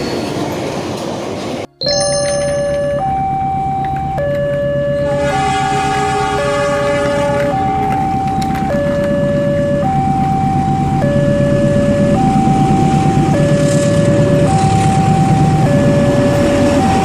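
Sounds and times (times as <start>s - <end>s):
two-tone warning alarm: 1.8s - 17.0s.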